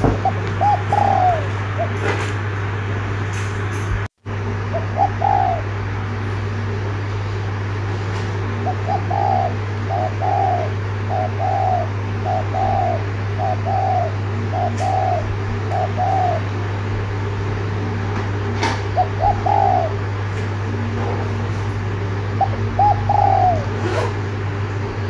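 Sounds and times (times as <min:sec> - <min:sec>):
dove cooing: 0:00.0 - 0:02.5, 0:04.5 - 0:07.0, 0:08.4 - 0:17.2, 0:17.9 - 0:24.4
steady low hum: 0:00.0 - 0:25.0.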